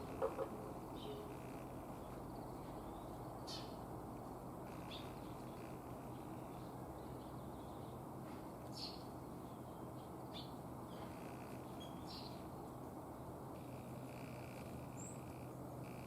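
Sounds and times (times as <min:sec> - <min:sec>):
low background hum: 0:00.0 - 0:16.0
small birds chirping: 0:00.0 - 0:16.0.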